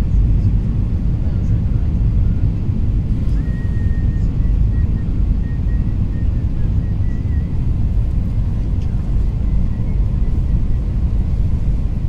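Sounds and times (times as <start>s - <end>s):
jet engines and rushing air: 0.0s - 12.0s.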